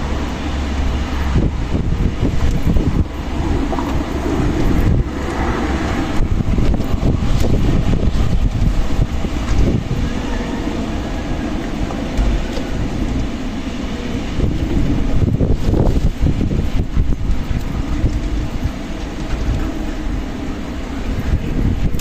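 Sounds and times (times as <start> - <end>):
strong gusting wind: 0.0 - 22.0.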